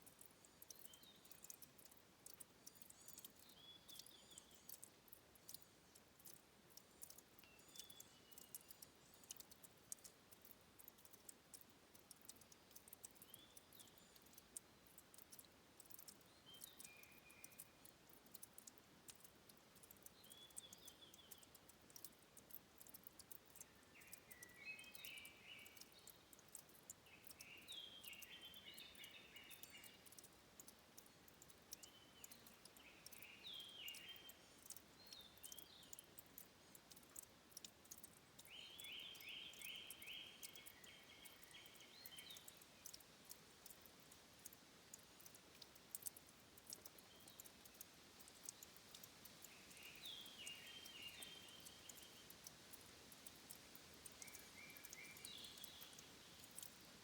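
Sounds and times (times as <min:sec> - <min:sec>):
songbird singing: 0:00.0 - 0:57.0
water dripping: 0:00.0 - 0:57.0.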